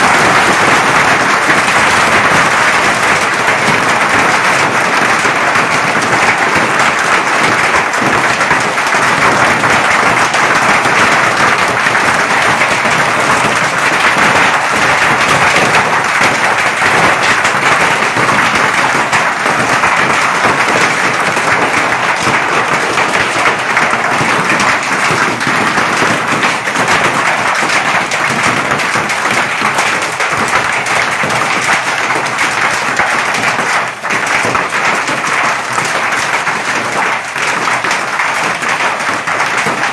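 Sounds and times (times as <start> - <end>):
hailstones clattering: 0.0 - 39.9.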